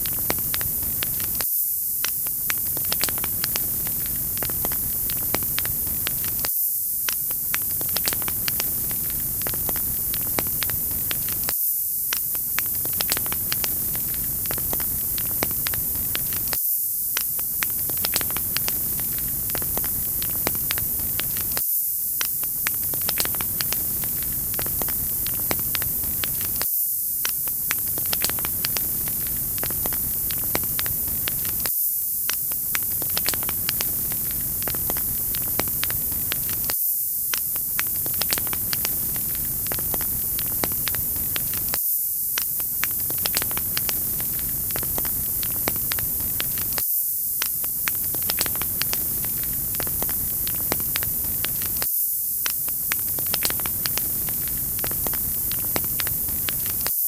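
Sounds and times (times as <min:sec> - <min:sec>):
wood fire crackling: 0:00.0 - 0:01.4, 0:02.0 - 0:11.5, 0:12.1 - 0:21.6, 0:22.2 - 0:26.6, 0:27.3 - 0:41.8, 0:42.4 - 0:46.8, 0:47.4 - 0:56.9.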